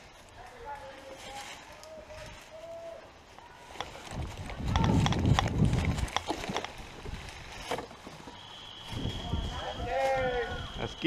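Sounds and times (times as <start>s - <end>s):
footsteps: 0.0s - 10.4s.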